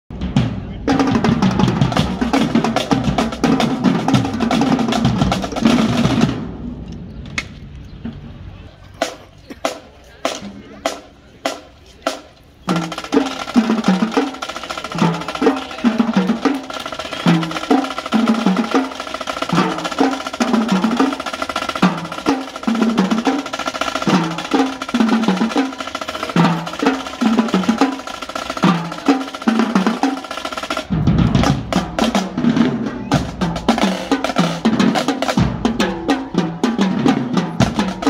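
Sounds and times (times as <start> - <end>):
snare drum rolls: 0.1 - 8.2, 9.0 - 38.0
tenor drums: 0.1 - 38.0.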